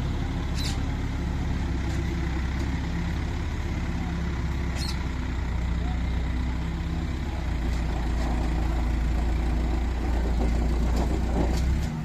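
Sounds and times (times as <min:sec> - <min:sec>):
diesel engine running at low revs: 0:00.0 - 0:12.0.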